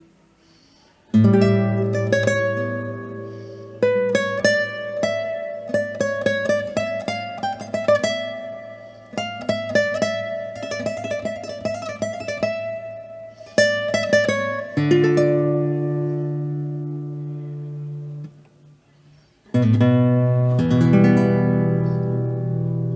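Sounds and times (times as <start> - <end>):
classical guitar playing: 1.1 - 22.9.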